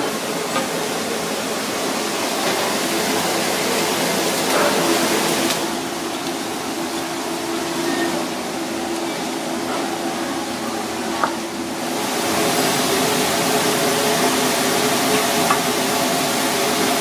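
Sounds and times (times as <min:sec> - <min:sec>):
rushing kitchen noise: 0:00.0 - 0:17.0.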